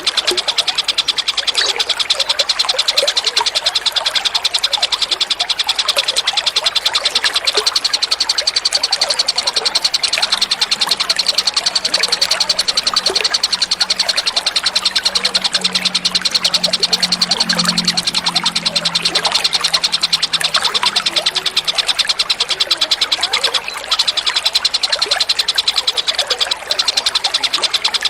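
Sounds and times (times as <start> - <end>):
songbird trilling: 0.0 - 28.0.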